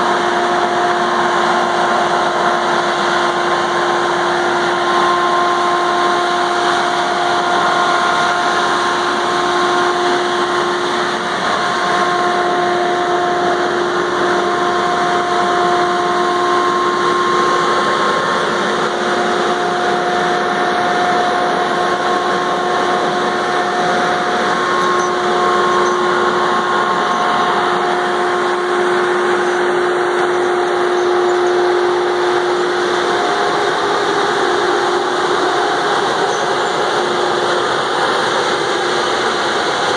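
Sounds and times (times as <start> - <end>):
constant whine: 0.0 - 39.9
diesel engine running under load: 0.0 - 39.9.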